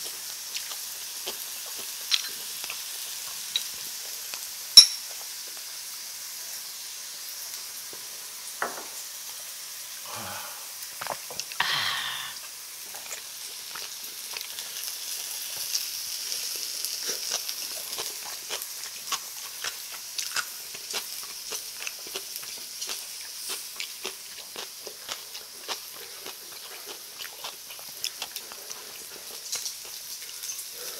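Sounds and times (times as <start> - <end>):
food sizzling on grill pan: 0.0 - 30.9.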